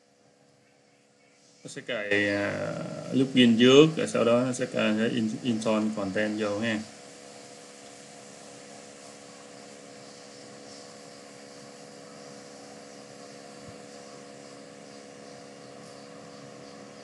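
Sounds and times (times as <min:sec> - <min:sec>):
mains hum and hiss: 0:00.0 - 0:17.0.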